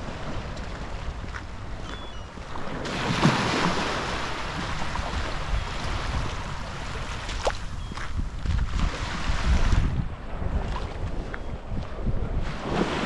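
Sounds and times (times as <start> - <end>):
waves breaking on shore: 0.0 - 13.0
wind rumbling on microphone: 0.0 - 13.0.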